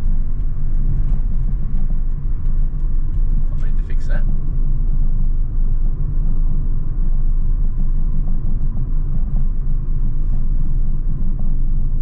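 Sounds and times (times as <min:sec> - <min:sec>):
car interior road and engine rumble: 0:00.0 - 0:12.0.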